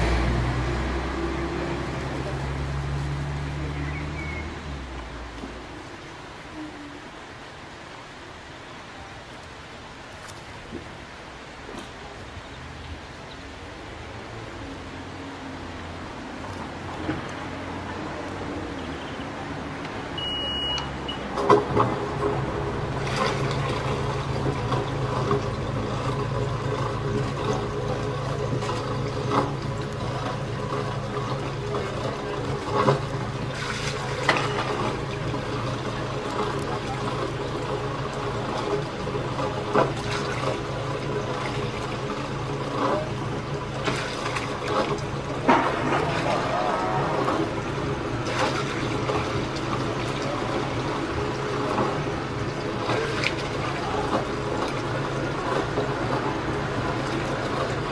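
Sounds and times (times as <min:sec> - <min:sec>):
water rushing into lock chamber: 0:00.0 - 0:09.1, 0:10.6 - 0:57.9.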